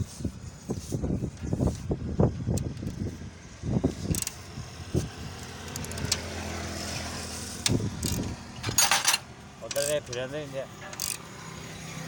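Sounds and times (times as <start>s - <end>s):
vehicle engine running: 1.5s - 12.0s.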